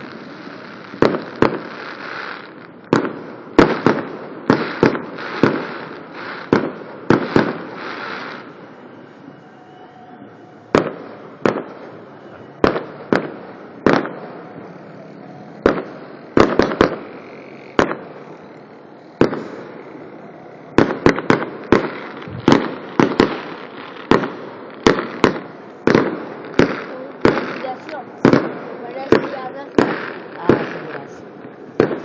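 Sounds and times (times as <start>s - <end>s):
fireworks banging: 0.0s - 9.0s, 10.6s - 32.0s.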